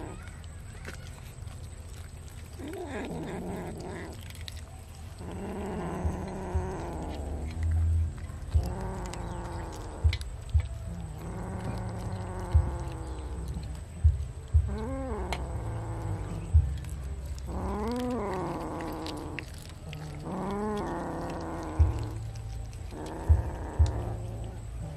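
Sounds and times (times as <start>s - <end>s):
cat growling and yowling: 0.0s - 7.8s, 8.4s - 13.8s, 14.5s - 24.9s
low steady rumble: 0.0s - 24.9s.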